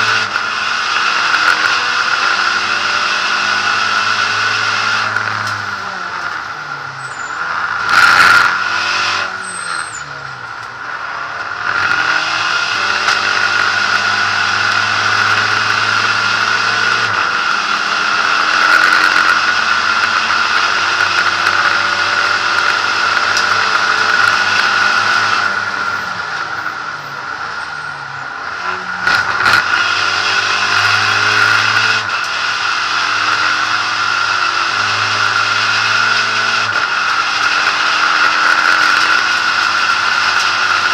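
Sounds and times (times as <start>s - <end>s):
race car engine revving: 0.0s - 40.9s
wind and road noise: 0.0s - 40.9s.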